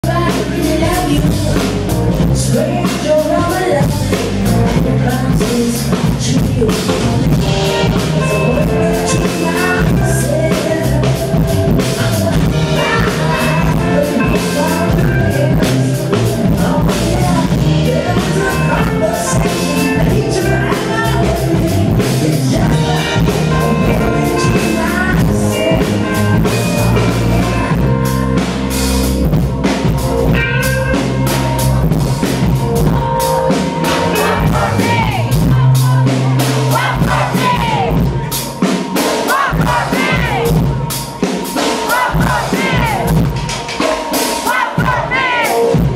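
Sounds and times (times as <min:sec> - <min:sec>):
person singing: 0:00.0 - 0:28.7, 0:33.6 - 0:43.2, 0:43.8 - 0:45.9
bass line: 0:00.0 - 0:38.7, 0:39.3 - 0:43.6
drum kit: 0:00.0 - 0:45.9
live band music: 0:00.0 - 0:45.9.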